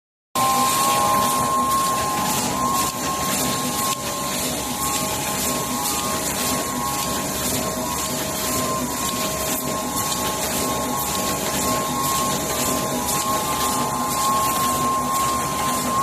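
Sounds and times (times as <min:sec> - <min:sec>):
high-pitched hum: 0:00.4 - 0:16.0
machine mechanical whir: 0:00.4 - 0:16.0.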